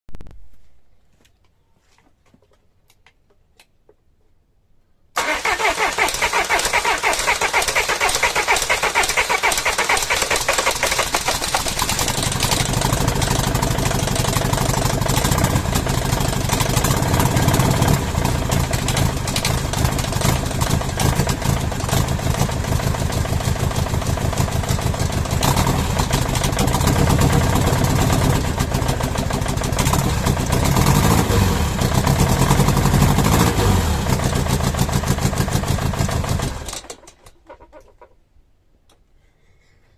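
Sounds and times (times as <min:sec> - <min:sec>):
diesel engine starting and running: 0:05.2 - 0:37.8.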